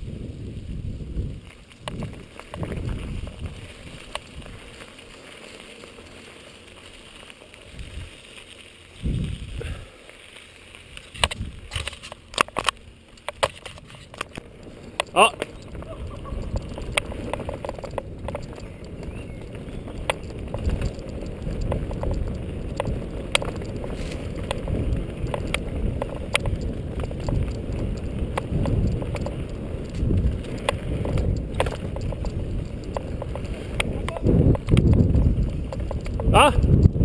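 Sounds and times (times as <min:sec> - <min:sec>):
bike tyres rumbling on dirt: 0:00.0 - 0:37.0
bike clicks and rattles: 0:00.1 - 0:37.0.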